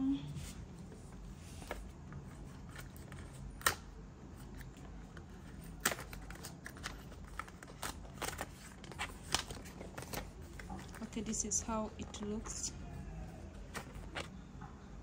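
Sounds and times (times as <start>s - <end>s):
cardboard and plastic rustling: 0.4s - 12.9s, 13.5s - 14.3s.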